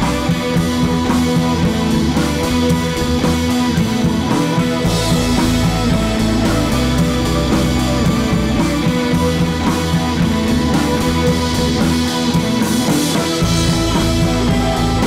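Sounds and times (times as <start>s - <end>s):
rock music with guitar and drums: 0.0s - 15.0s.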